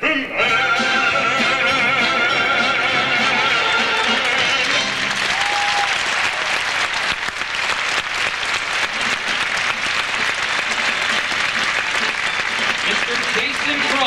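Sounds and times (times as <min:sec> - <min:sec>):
audience applauding: 0:02.0 - 0:14.0.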